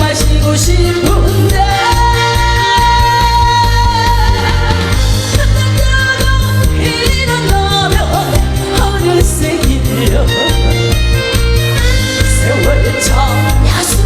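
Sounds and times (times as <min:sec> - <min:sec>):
person singing: 0:00.0 - 0:11.2, 0:11.9 - 0:14.0
backing track with steady beat: 0:00.0 - 0:14.0.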